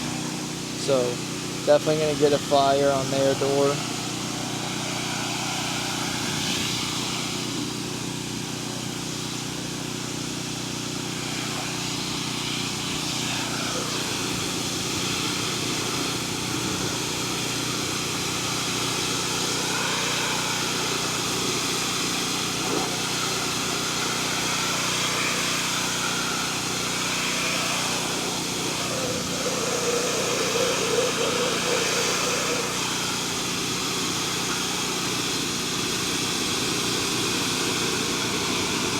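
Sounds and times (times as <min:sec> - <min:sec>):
small petrol engine running: 0:00.0 - 0:38.9
water spraying hiss: 0:00.0 - 0:38.9.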